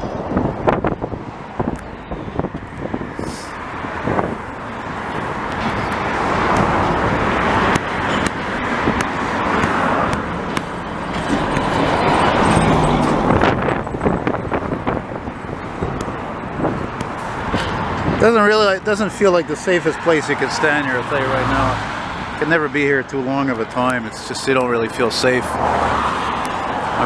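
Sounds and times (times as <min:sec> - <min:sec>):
highway traffic: 0:00.0 - 0:27.0.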